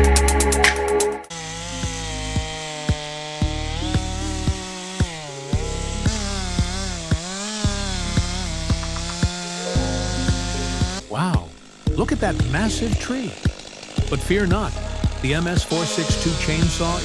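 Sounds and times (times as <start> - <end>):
chainsaw cutting wood: 1.3 - 17.0
background music with kick drum: 1.8 - 17.0.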